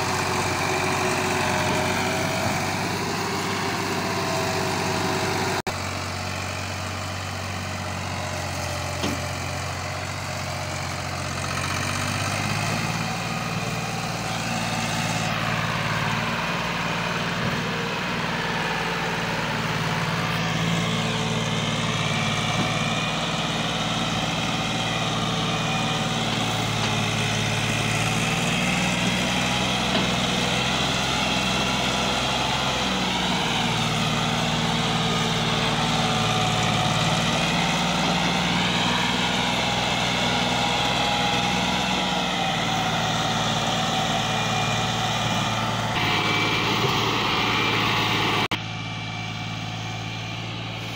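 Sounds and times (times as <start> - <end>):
tractor diesel engine straining: 0.0 - 50.9.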